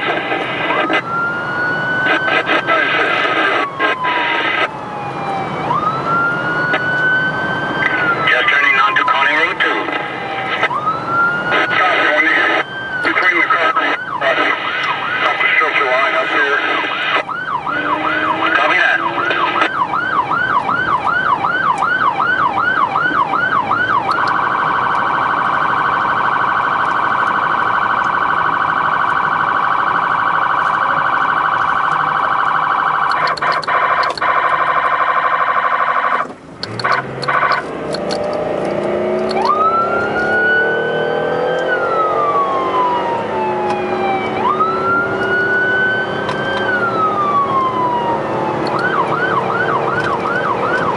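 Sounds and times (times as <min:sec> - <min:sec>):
emergency vehicle siren: 0:00.0 - 0:50.9.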